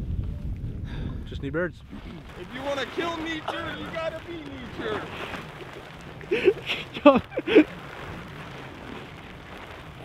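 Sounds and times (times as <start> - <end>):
steady hiss: 2.0 - 10.0.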